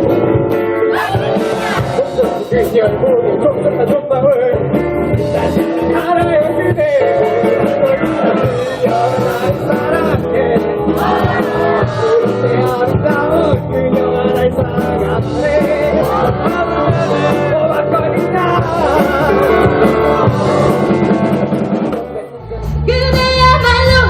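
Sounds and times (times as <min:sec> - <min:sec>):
live rock band playing: 0:00.0 - 0:24.0
person singing: 0:00.9 - 0:24.0.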